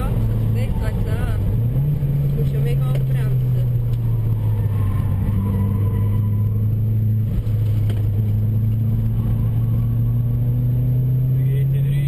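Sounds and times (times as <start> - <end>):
car engine drone from cabin: 0.0 - 12.0.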